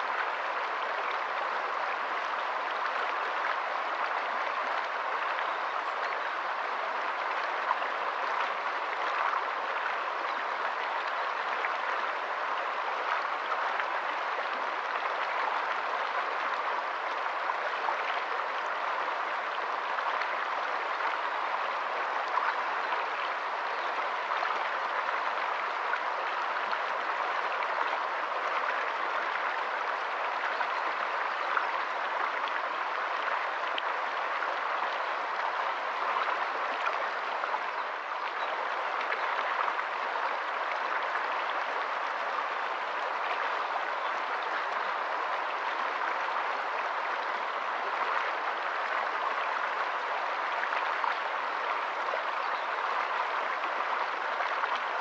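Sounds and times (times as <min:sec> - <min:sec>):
stream running over stones: 0:00.0 - 0:55.0.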